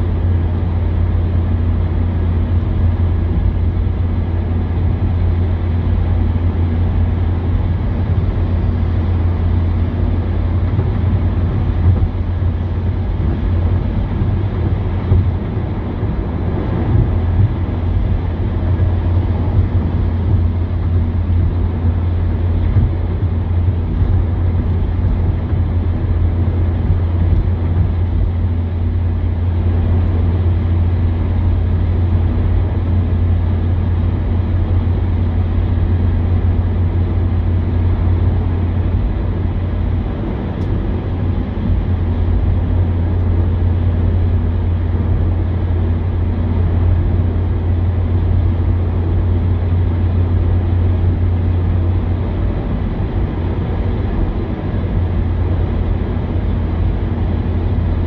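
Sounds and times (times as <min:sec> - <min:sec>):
car interior road drone: 0:00.0 - 0:58.0.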